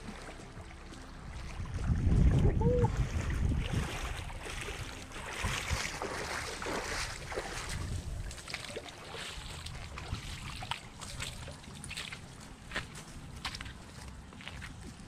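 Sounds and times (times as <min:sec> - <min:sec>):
footsteps splashing in shallow water: 0:00.0 - 0:15.0.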